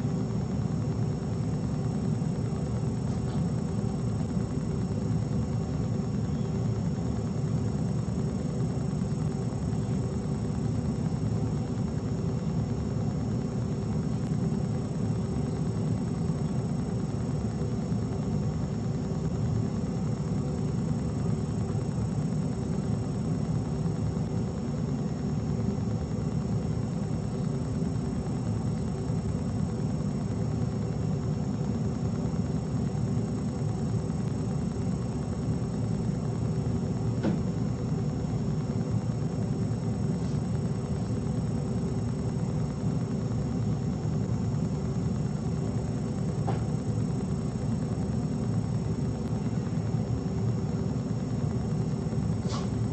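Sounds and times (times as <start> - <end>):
faint constant tones: 0.0 - 52.9.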